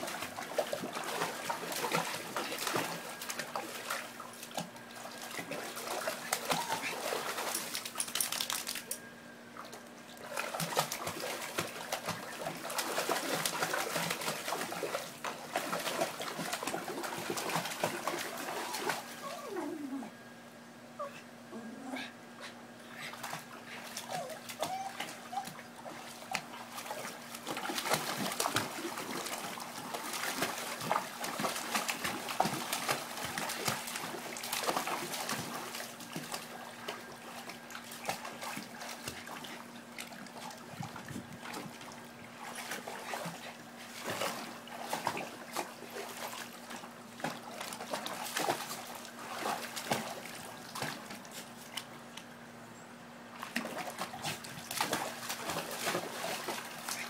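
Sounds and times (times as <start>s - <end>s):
dogs splashing in water: 0.0s - 8.9s, 9.6s - 19.4s, 22.9s - 52.2s, 53.4s - 57.0s.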